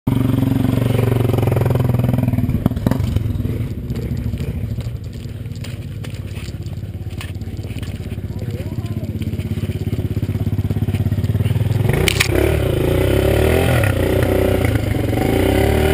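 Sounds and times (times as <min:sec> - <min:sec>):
quad bike engine running: 0:00.1 - 0:15.9.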